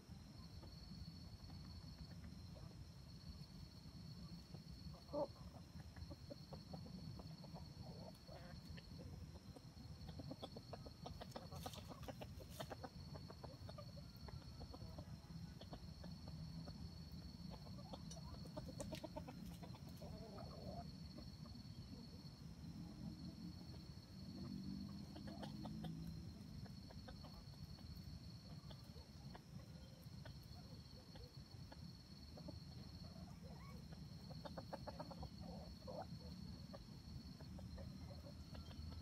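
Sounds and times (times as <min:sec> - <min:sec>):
insects droning: 0:00.0 - 0:39.0
junglefowl clucking: 0:04.3 - 0:22.3, 0:23.7 - 0:39.0.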